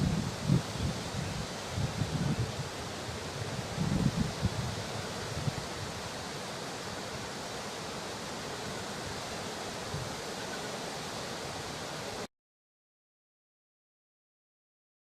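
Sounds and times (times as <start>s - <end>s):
steady rushing noise: 0.0s - 12.3s.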